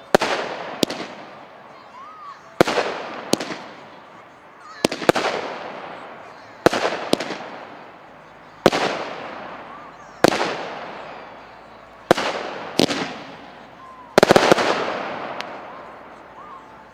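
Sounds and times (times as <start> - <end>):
fireworks banging with echo: 0.0 - 16.9.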